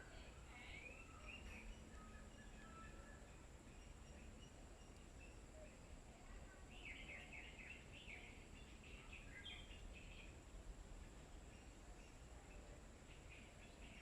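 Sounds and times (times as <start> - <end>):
faint bird chirps: 0.0 - 14.0
low background hum: 0.0 - 14.0.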